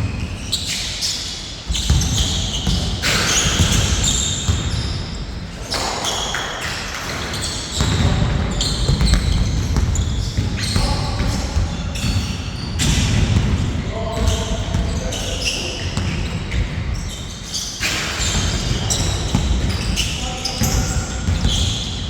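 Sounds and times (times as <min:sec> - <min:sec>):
shoes squeaking: 0:00.0 - 0:13.2, 0:14.1 - 0:22.0
basketball bouncing on court: 0:01.6 - 0:05.3, 0:06.9 - 0:22.0.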